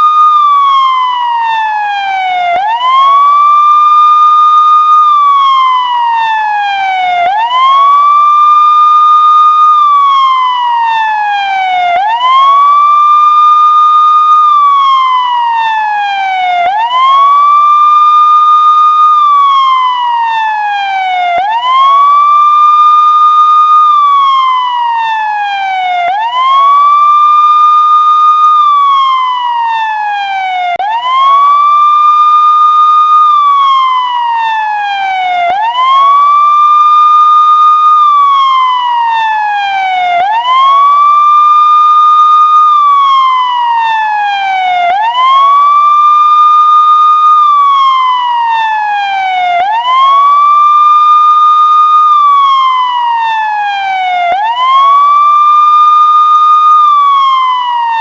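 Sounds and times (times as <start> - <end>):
emergency vehicle siren wailing: 0.0 - 58.0.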